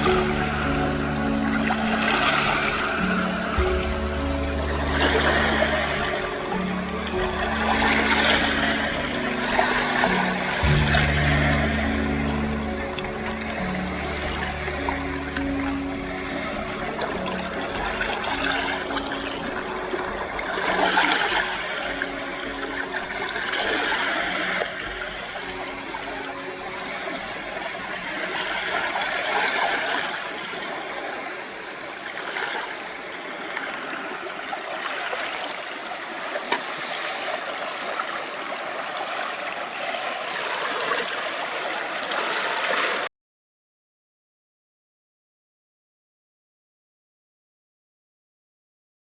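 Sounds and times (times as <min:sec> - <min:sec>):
small waves washing on shore: 0:00.0 - 0:43.1.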